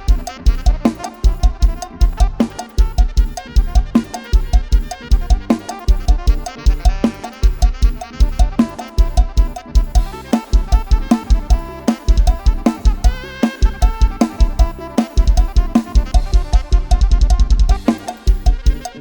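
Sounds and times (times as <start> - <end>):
drum kit beat: 0.0 - 19.0
fast dance music: 0.0 - 19.0.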